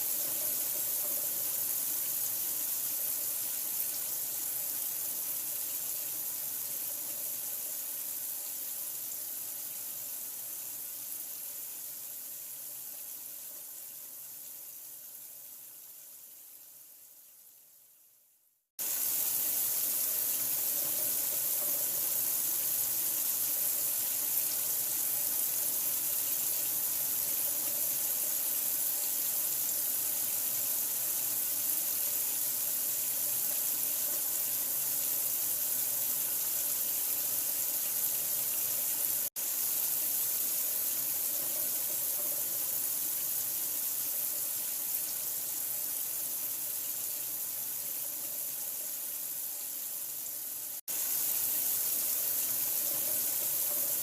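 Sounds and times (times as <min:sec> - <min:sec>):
running water hiss: 0:00.0 - 0:18.2, 0:18.8 - 0:54.0.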